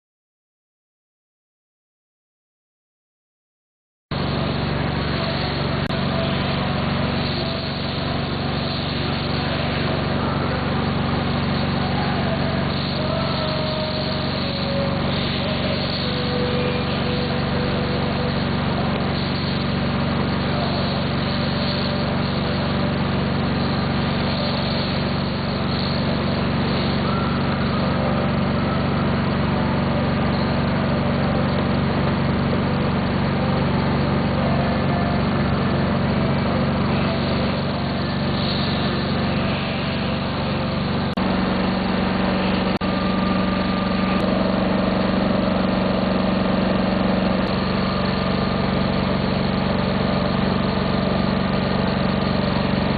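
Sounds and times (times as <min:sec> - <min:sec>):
air compressor humming: 0:04.1 - 0:52.9.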